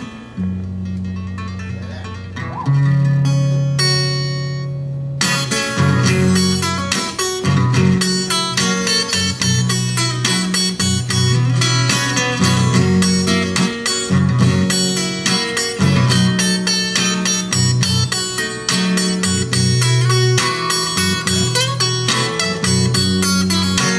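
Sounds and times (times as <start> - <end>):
fingerpicked acoustic blues guitar: 0.0 - 23.9.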